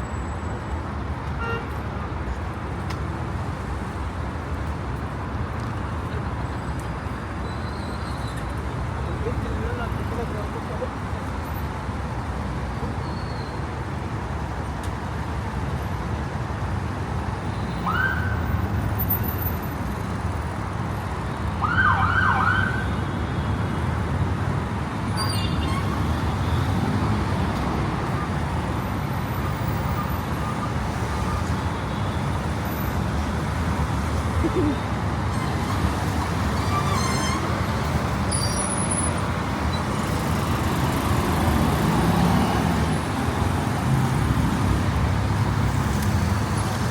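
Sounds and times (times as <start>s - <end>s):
city traffic rumble: 0.0s - 46.9s.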